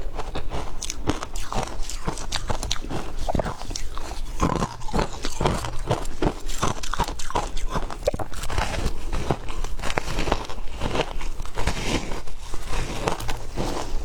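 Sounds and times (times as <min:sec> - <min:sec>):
ice being chewed crunching: 0:00.0 - 0:14.0.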